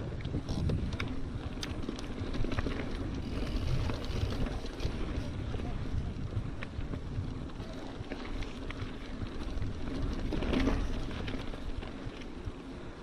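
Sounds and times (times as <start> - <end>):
bike clicks and rattles: 0.0 - 13.0
bike tyres rumbling on gravel: 0.0 - 13.0
wind buffeting microphone: 0.0 - 13.0.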